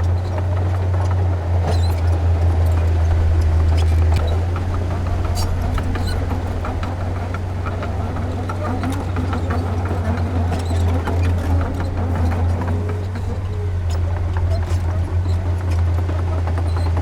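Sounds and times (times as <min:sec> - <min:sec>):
heavy diesel engine running: 0:00.0 - 0:17.0
light clicks and clanks: 0:00.0 - 0:17.0.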